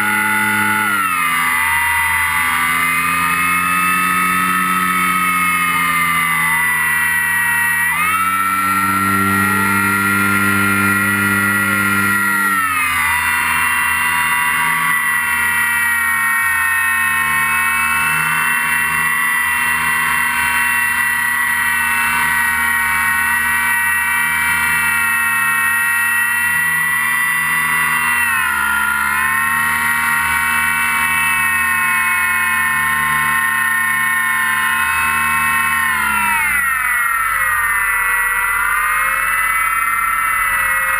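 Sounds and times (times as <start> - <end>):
model plane motor whining: 0.0 - 40.9.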